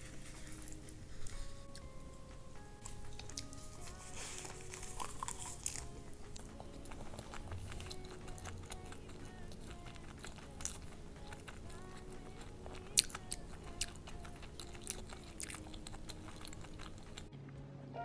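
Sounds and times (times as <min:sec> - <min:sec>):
close chewing and crunching: 0:00.0 - 0:17.3
low steady hum: 0:00.0 - 0:18.0.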